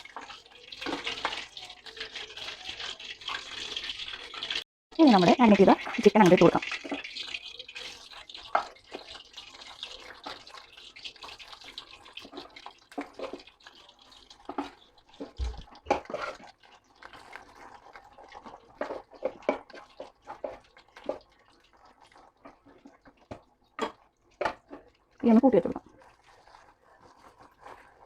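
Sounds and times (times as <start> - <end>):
chicken frying in hot oil: 0.0 - 28.0.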